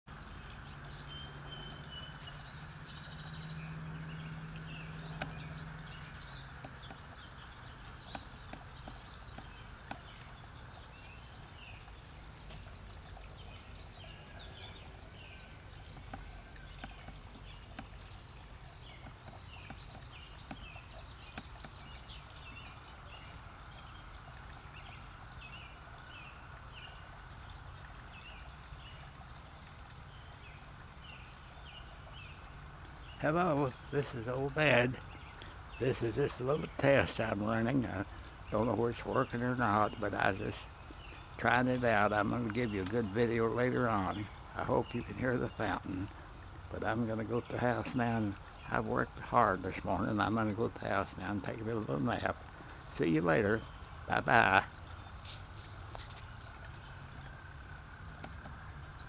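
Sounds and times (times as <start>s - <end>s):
fountain trickling: 0.0s - 59.0s
birds chirping and singing: 0.1s - 57.5s.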